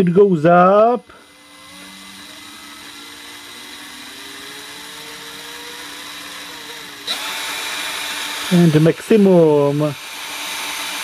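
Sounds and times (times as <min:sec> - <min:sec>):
cordless drill whirring: 0:01.0 - 0:11.0.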